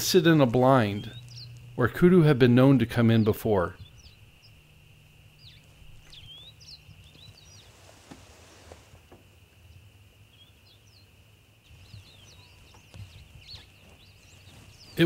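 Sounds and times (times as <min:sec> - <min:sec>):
small birds chirping: 0:00.0 - 0:15.0
steady high hum: 0:00.0 - 0:15.0.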